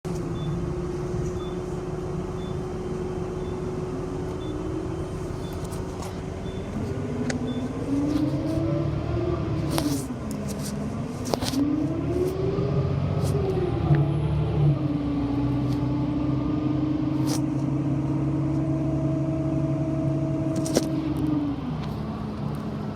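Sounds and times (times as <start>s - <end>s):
bus engine drone: 0.0s - 22.9s.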